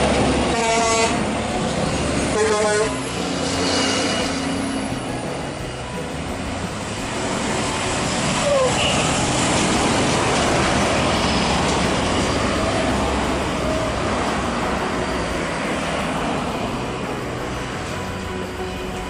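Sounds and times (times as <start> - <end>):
diesel truck engine passing: 0.0 - 19.0
road traffic: 0.0 - 19.0.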